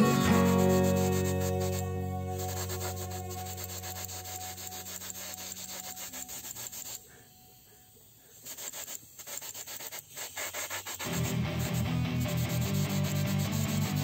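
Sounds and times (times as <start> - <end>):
paint spray gun hissing: 0.0 - 14.0.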